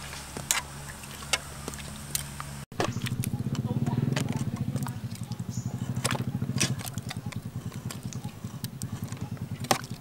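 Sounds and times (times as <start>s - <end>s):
small engine running: 1.5s - 10.0s.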